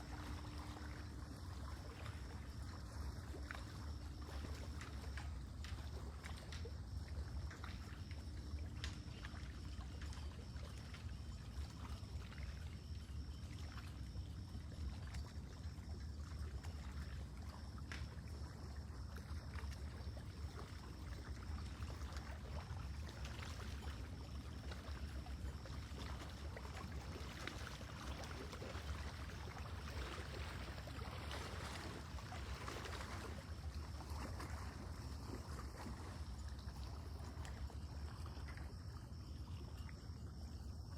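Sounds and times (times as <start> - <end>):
lake water lapping at shore: 0.0 - 40.9.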